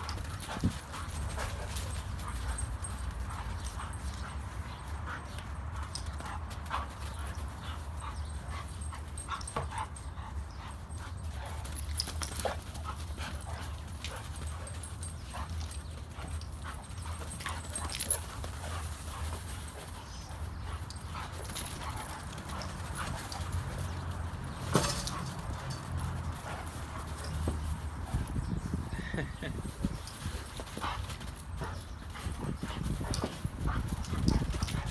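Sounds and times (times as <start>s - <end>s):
dogs' footfalls and scuffling: 0.0s - 34.9s.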